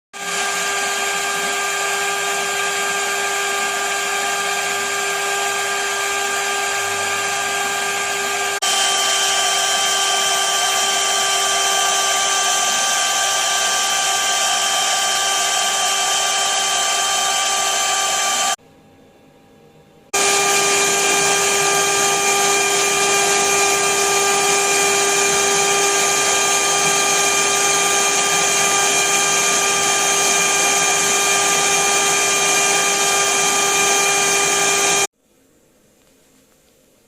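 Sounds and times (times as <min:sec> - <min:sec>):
milling machine spindle whine: 0:00.2 - 0:18.6, 0:20.2 - 0:35.1.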